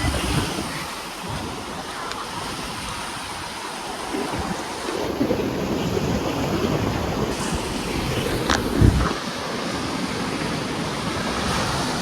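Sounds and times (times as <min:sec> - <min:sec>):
sea waves washing onto beach: 0:00.0 - 0:12.0
wind buffeting microphone: 0:00.0 - 0:12.0.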